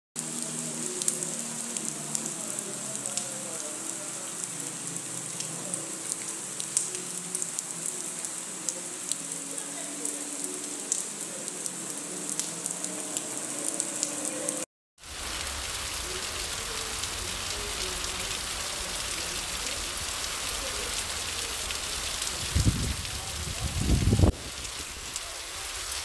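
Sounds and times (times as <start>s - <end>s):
heavy rain falling: 0.2s - 26.0s.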